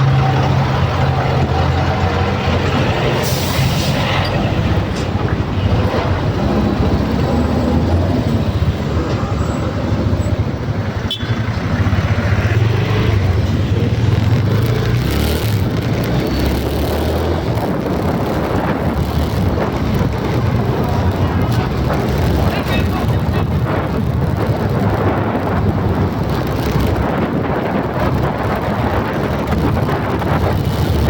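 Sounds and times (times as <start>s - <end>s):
vehicle rumble: 0.0s - 31.0s.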